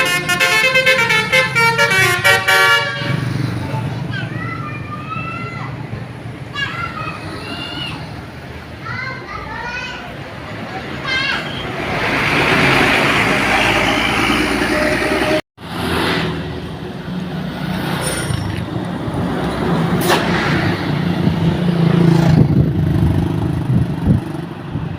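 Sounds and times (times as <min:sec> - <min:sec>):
bus diesel engines passing: 0:00.0 - 0:24.9.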